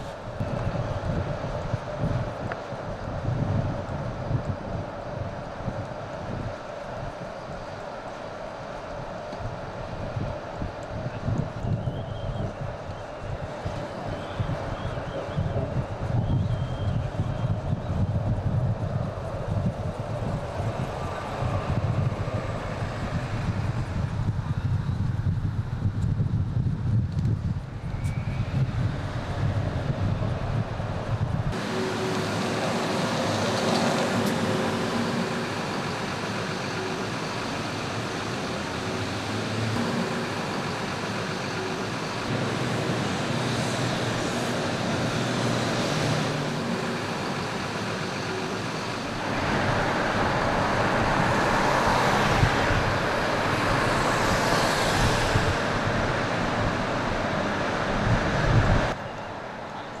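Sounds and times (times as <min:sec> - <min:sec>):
bus engine and road noise: 0:00.0 - 1:00.0.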